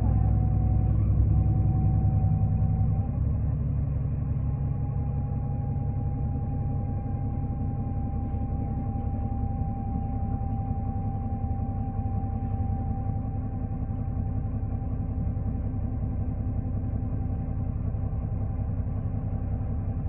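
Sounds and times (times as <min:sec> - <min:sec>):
bus engine and road rumble: 0:00.0 - 0:20.0
thin steady whine: 0:00.0 - 0:20.0.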